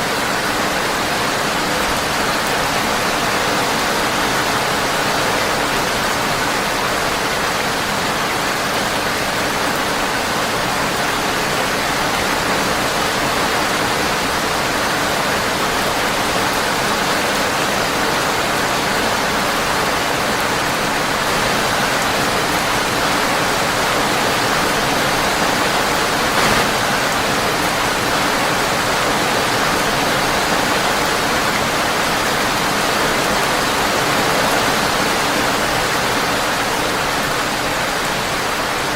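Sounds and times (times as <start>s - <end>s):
rain on a windowpane: 0.0s - 38.9s.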